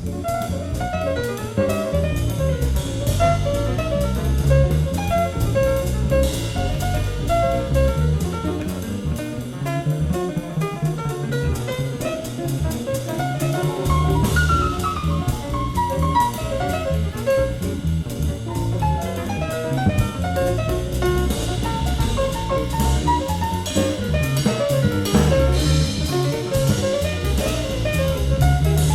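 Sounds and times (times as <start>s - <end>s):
double bass: 0.0s - 28.9s
drum kit with cymbals: 0.0s - 28.9s
melodic jazz solo: 0.0s - 28.9s.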